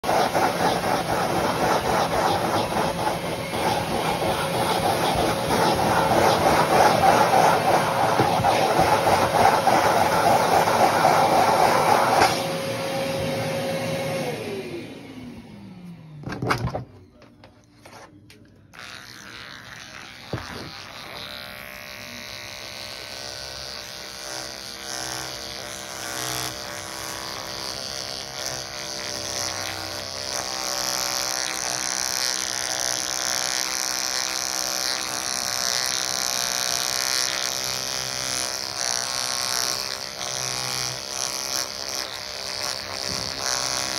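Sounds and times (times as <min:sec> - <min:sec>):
electric clippers buzzing: 0:00.0 - 0:15.6, 0:18.6 - 0:43.9.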